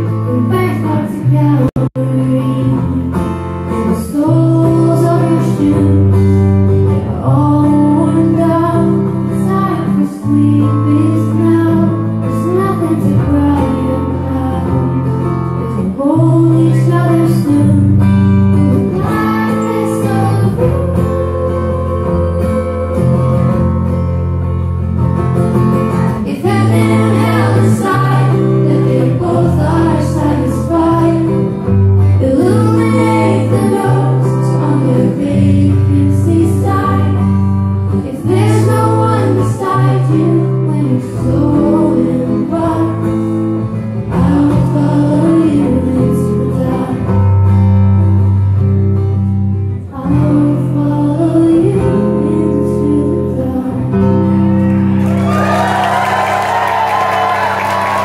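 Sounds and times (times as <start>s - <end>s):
woman singing: 0.0s - 23.7s, 26.1s - 43.2s, 44.0s - 47.4s, 49.9s - 54.5s
strummed guitar chords: 0.0s - 58.0s.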